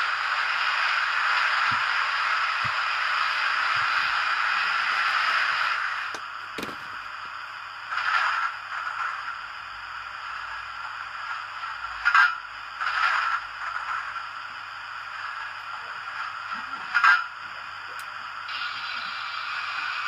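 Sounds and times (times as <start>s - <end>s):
steam hiss: 0.0s - 20.0s.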